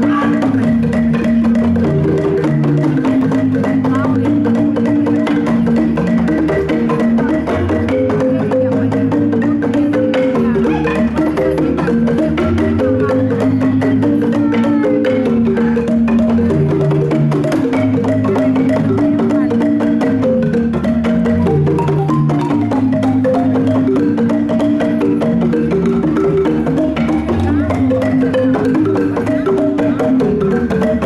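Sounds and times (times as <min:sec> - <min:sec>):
marimbas played with mallets: 0:00.0 - 0:31.0.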